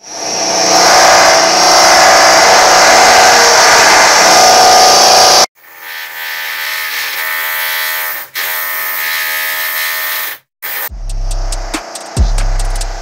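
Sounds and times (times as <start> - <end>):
pitch-shifted drill motor whine: 0.0 - 11.8.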